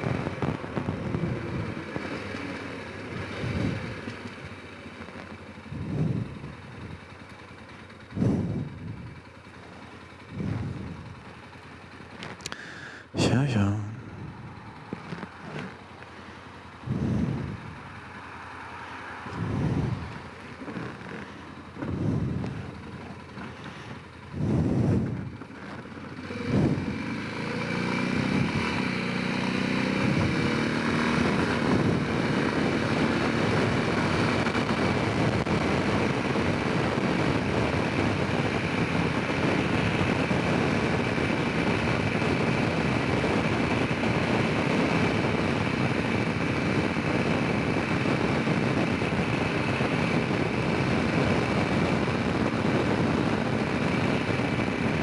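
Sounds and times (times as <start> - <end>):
quad bike engine: 0.0 - 13.1, 14.0 - 55.0.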